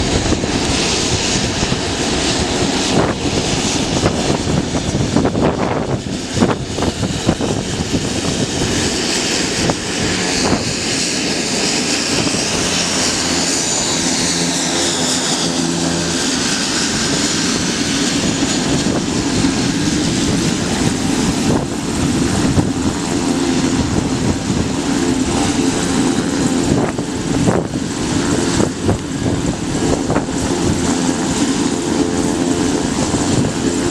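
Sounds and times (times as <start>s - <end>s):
high turbine whine: 0.0s - 33.9s
propeller drone: 0.0s - 33.9s.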